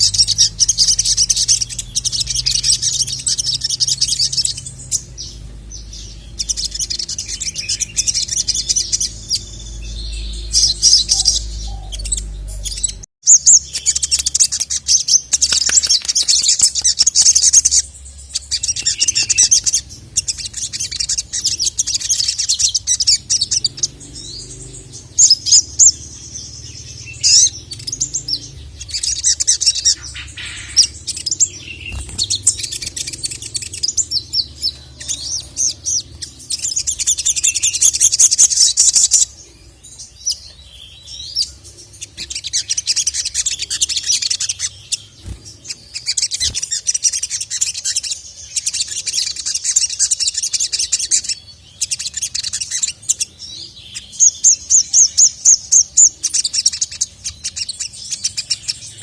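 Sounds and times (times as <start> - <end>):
faint low hum: 0.0 - 50.4
songbird chirps and trills: 0.0 - 59.0.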